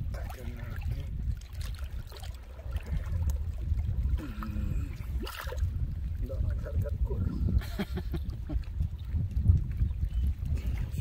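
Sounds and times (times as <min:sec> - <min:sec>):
steady low rumble: 0:00.0 - 0:11.0
water sloshing around waders: 0:00.0 - 0:11.0.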